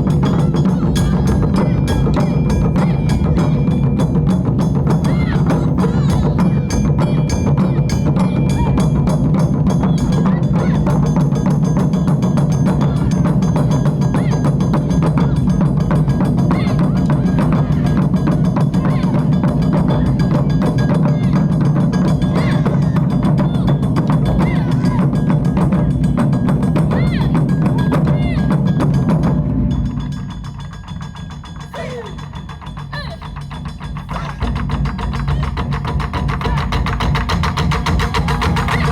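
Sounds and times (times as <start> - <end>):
drum ensemble playing fast strokes: 0.0 - 38.9.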